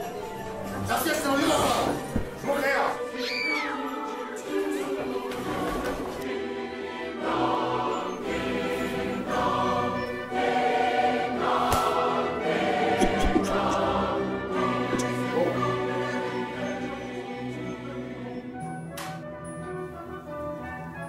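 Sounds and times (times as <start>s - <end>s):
choir singing sustained chords: 0.0s - 18.9s.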